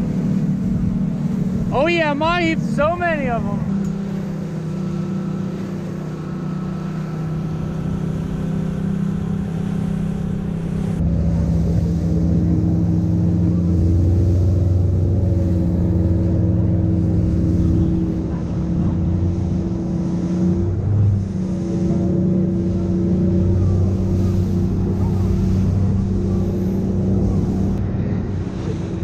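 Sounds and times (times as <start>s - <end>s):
outboard motor running: 0.0s - 29.0s
water rushing off hull: 0.0s - 29.0s.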